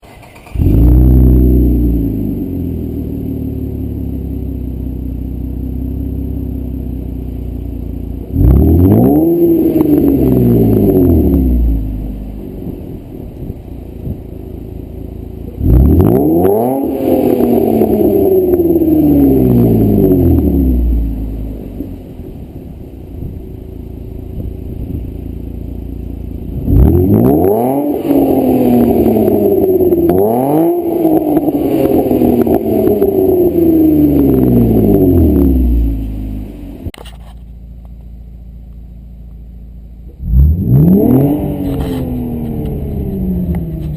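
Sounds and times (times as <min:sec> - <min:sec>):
car engine revving: 0:00.0 - 0:37.0, 0:38.8 - 0:43.9.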